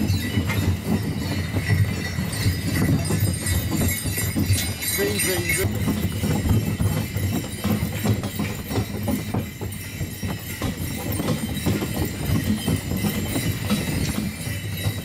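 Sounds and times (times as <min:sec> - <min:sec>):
hooves clip-clopping on snow: 0:00.0 - 0:15.0
sleigh rattling: 0:00.0 - 0:15.0.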